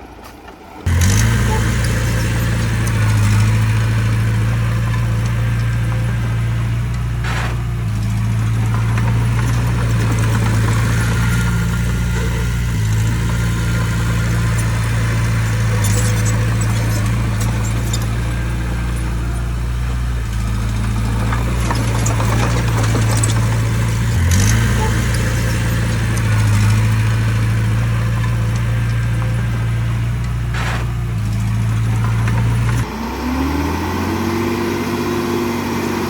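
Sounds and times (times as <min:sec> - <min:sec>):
diesel engine of construction machinery: 0:00.0 - 0:36.0.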